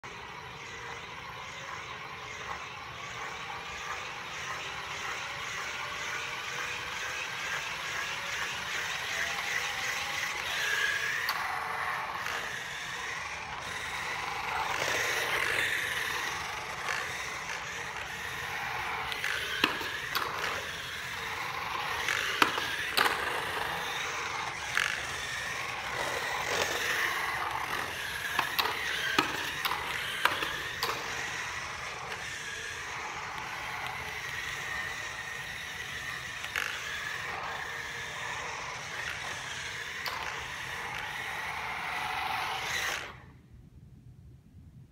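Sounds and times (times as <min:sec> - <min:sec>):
wheels rolling on concrete: 0:00.0 - 0:43.3
motor and gear whine: 0:00.0 - 0:43.4.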